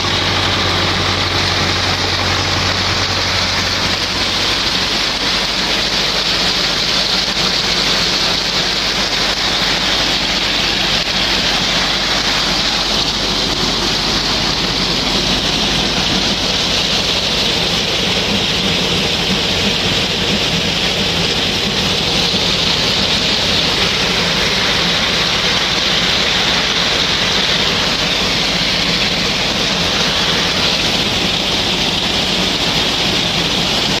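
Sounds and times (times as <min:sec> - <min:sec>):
grain pouring onto grate: 0:00.0 - 0:34.0
machinery humming low: 0:00.0 - 0:34.0.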